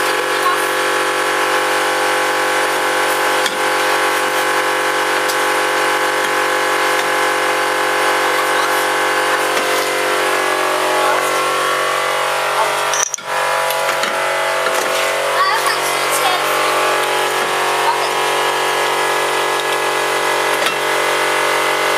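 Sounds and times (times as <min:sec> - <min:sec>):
machine drone: 0:00.0 - 0:21.9.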